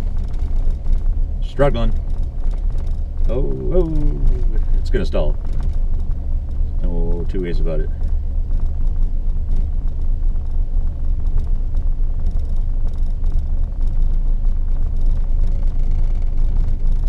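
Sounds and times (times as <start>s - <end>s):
car engine running rough: 0.0s - 17.0s.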